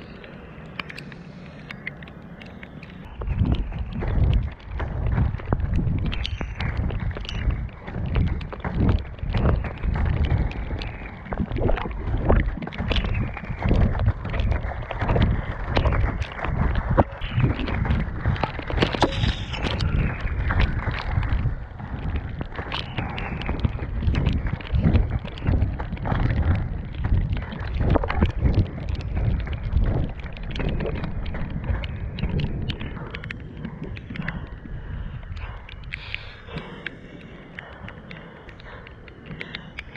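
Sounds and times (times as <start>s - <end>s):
skate wheels rolling on rough trail: 0.0s - 39.9s
wind buffeting microphone: 0.0s - 39.9s
knocks and scrapes of strides: 2.6s - 39.9s.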